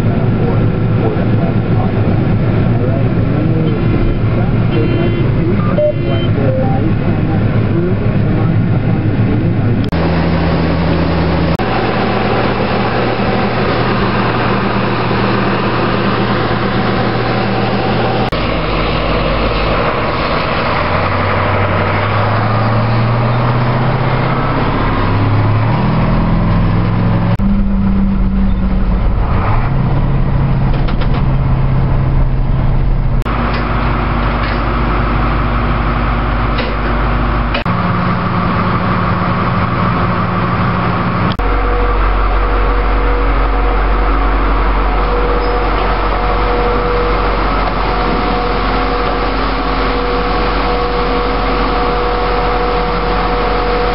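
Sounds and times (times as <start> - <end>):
combine harvester engine running: 0.0 - 53.9
truck engine accelerating: 0.0 - 53.9.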